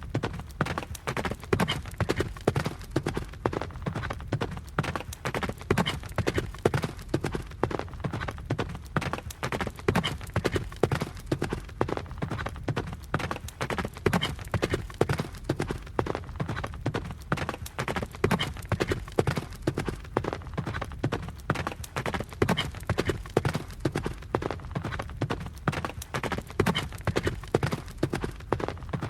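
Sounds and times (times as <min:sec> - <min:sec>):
horse hoofbeats: 0:00.0 - 0:29.0.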